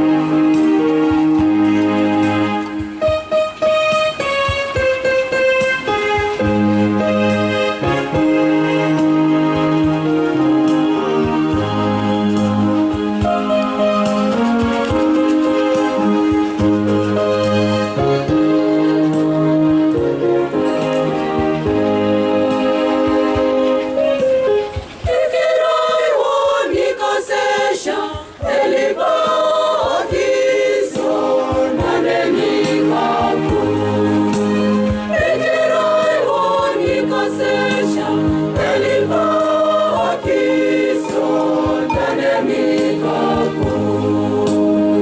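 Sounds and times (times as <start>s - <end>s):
electronic keyboard accompaniment: 0.0s - 27.6s, 28.3s - 45.0s
choir singing a hymn: 0.0s - 45.0s.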